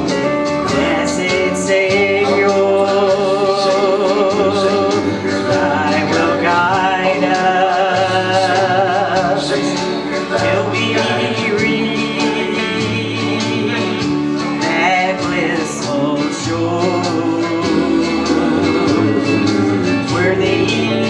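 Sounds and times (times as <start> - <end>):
backing track with steady beat: 0.0 - 21.0
woman singing country gospel: 0.6 - 21.0.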